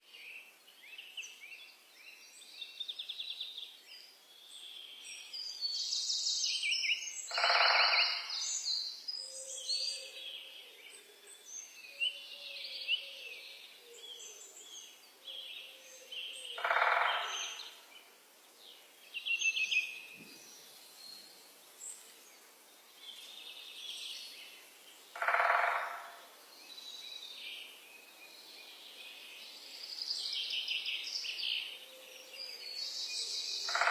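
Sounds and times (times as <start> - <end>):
songbirds chirping and trilling: 0.0 - 33.9.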